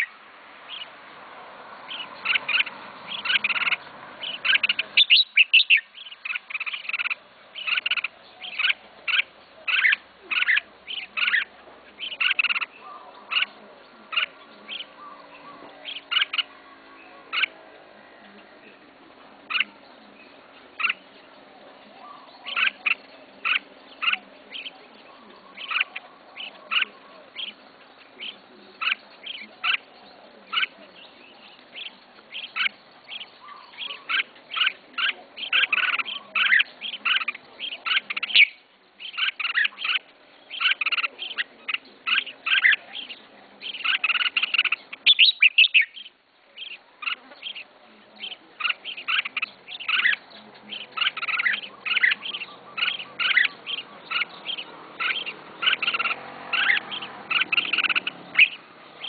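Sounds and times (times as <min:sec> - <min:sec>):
bird singing chirping phrases: 0:00.0 - 0:59.0.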